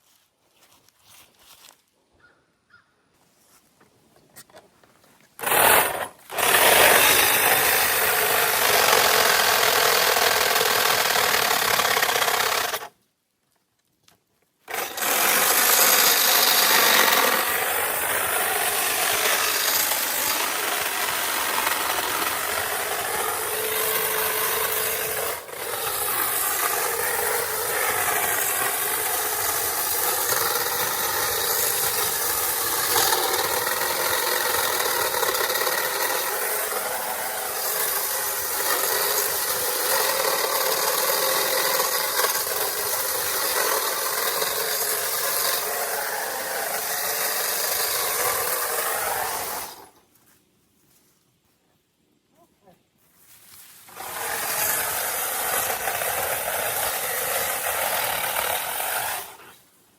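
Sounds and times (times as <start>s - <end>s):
power saw cutting branches: 5.4s - 12.9s, 14.6s - 50.1s, 53.8s - 59.7s.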